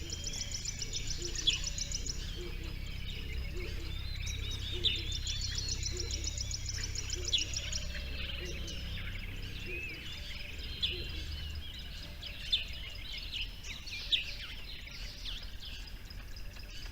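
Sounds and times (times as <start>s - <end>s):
low rumble: 0.0s - 13.6s
birds chirping: 0.0s - 16.9s.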